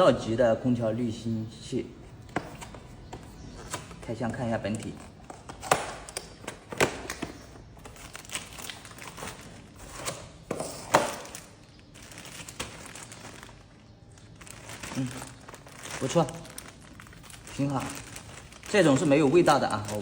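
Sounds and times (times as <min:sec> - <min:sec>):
plastic and cardboard rustling: 0:02.0 - 0:20.0.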